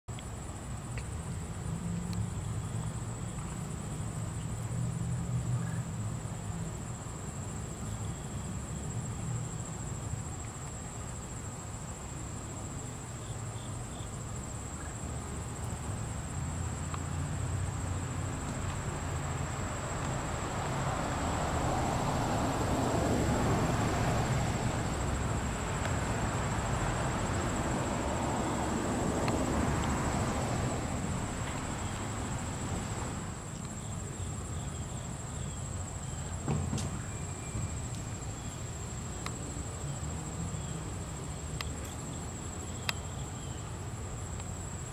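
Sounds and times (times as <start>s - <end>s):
insects trilling: 0.1s - 44.9s.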